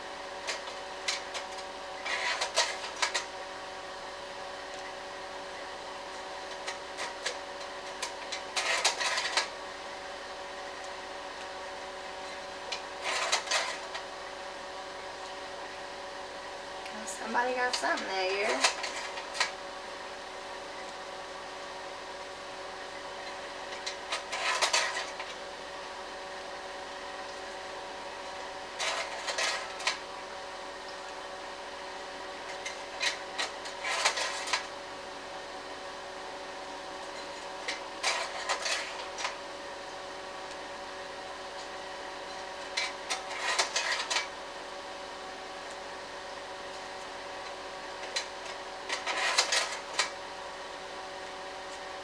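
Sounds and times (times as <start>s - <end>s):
slide projector fan hum: 0.0s - 52.0s.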